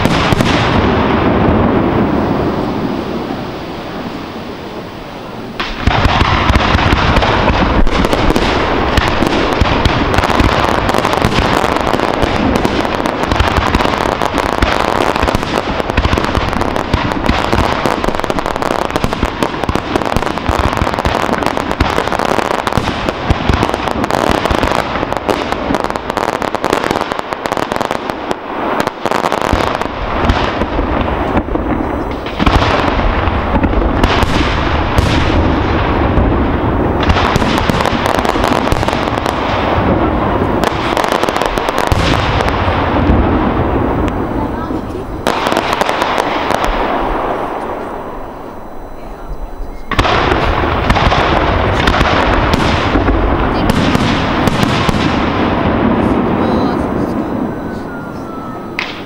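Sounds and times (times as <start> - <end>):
fireworks launching and bursting: 0.0 - 59.0.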